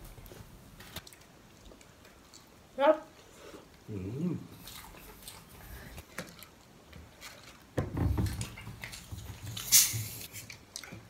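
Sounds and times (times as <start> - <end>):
wet chewing and mouth clicks: 0.2 - 11.0.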